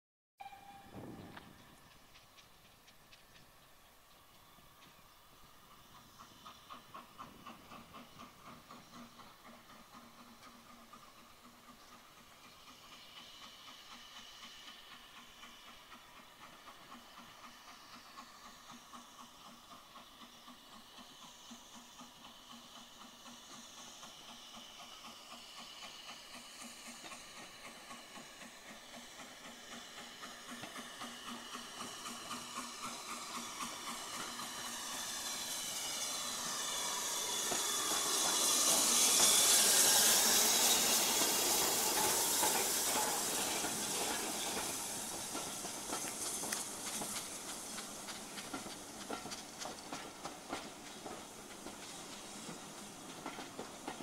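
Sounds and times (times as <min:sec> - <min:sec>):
steam locomotive running: 0:00.4 - 0:54.0
loud hiss of steam: 0:00.7 - 0:54.0
wheels clicking over rail joints: 0:00.9 - 0:12.6, 0:22.2 - 0:54.0.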